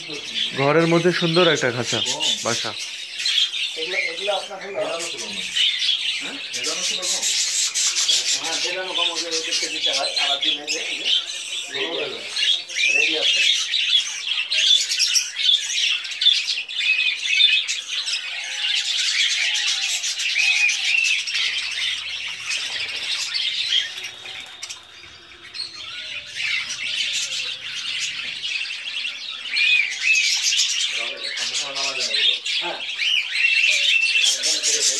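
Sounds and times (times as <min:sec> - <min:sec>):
budgerigars chirping and squawking: 0:00.0 - 0:34.9.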